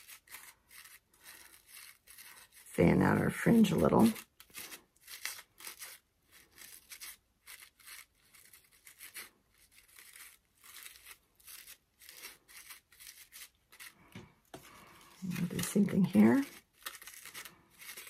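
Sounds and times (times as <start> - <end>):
crepe paper rustling: 0.0 - 2.7, 4.0 - 18.0.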